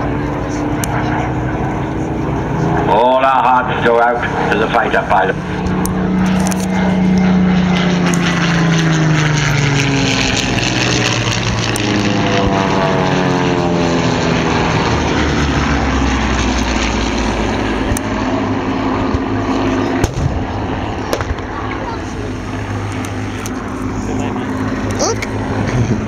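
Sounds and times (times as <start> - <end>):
propeller aircraft engine drone: 0.0 - 26.0.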